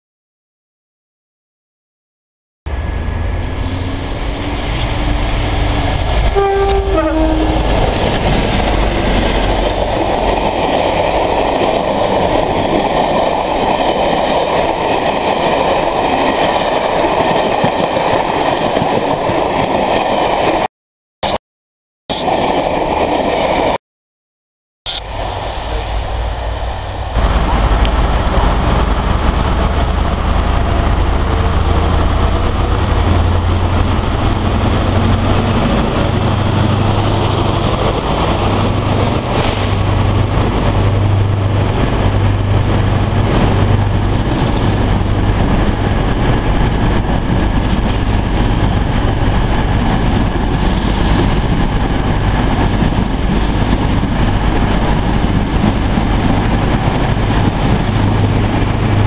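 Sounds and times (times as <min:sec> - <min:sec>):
diesel train engine drone: 0:02.7 - 0:19.8, 0:24.9 - 0:59.0
wheels rumbling on rails: 0:02.7 - 0:20.7, 0:24.9 - 0:59.0.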